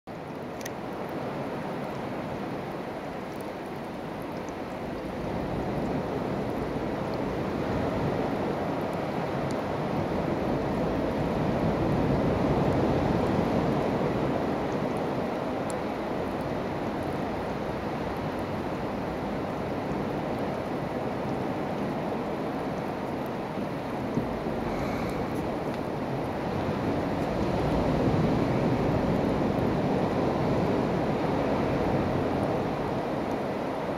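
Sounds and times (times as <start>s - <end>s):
sea surf washing on shore: 0.1s - 33.9s.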